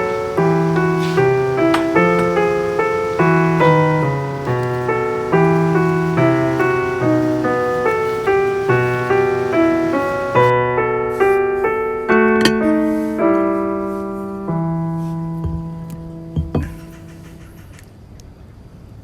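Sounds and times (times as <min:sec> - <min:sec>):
piano music: 0:00.0 - 0:17.4.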